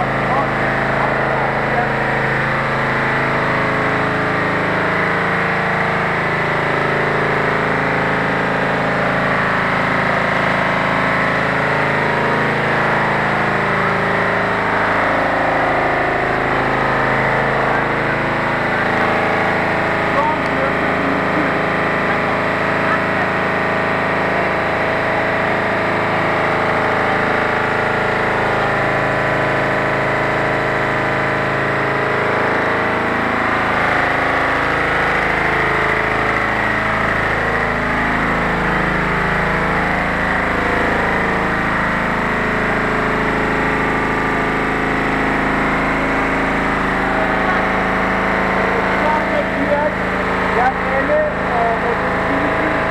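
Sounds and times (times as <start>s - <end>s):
knitting machine running: 0.0s - 52.9s.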